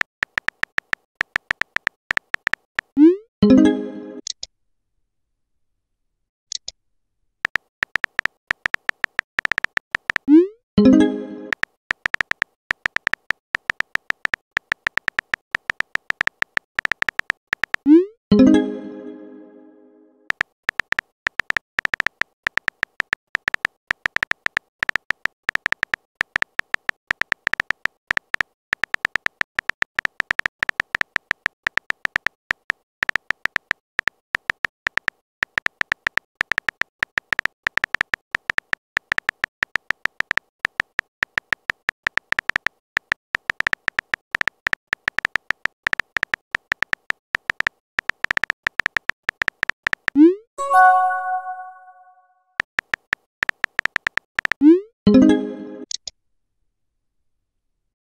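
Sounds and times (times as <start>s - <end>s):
electronic keyboard typing clicks: 0.0s - 4.5s, 7.4s - 18.7s, 20.3s - 52.0s, 52.6s - 56.1s.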